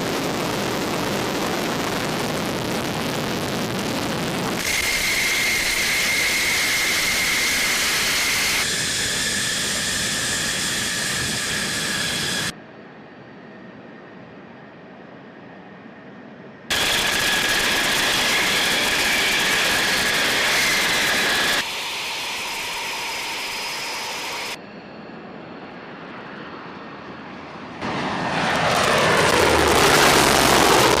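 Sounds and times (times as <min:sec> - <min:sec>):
jet engine roar: 0:00.0 - 0:31.0
jet passing: 0:00.1 - 0:12.6, 0:16.7 - 0:31.0.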